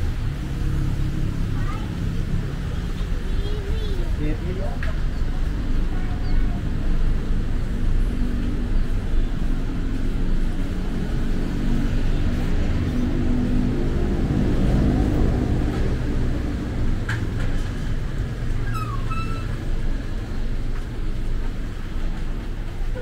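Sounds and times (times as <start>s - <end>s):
traffic engines rumbling: 0.0s - 23.0s.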